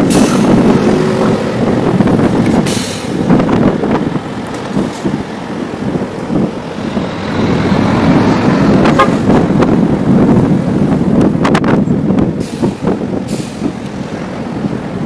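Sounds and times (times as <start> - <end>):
coach engine and tyres: 0.0 - 15.0
wind on microphone: 0.0 - 15.0.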